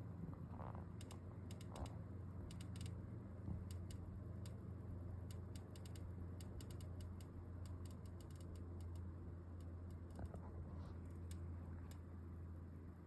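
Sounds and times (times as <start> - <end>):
steady low hum: 0.0 - 13.0
faint irregular clicks: 0.5 - 12.1.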